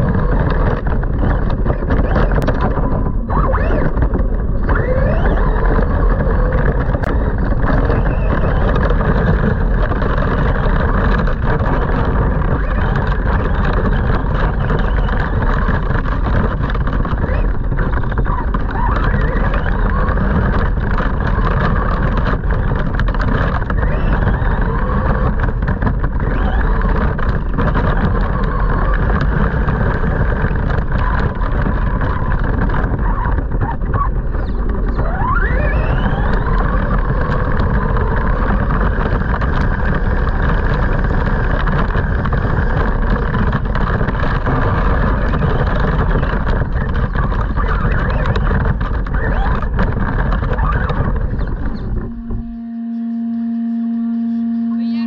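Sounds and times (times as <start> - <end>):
toy truck motor and tyres rumbling: 0.0 - 55.0.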